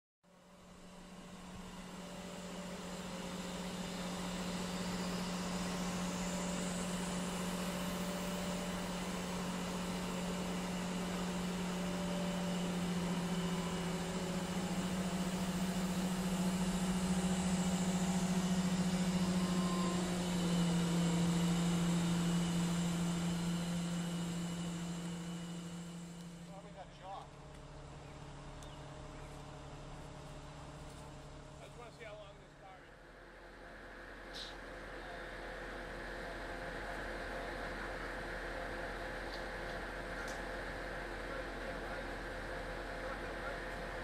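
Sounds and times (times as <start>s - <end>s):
diesel engine low drone: 0.3s - 44.0s.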